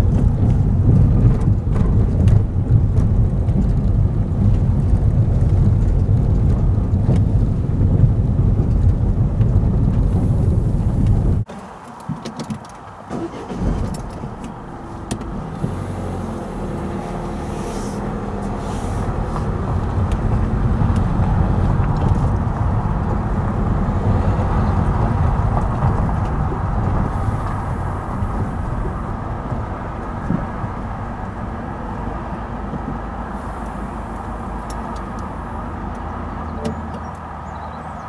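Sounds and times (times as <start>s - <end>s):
tyres rolling over gravel: 0.0s - 35.7s
car engine running slowly: 0.0s - 38.0s.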